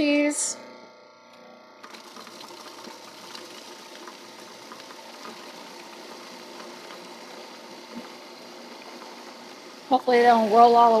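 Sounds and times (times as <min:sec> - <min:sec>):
food processor running: 0:01.8 - 0:11.0.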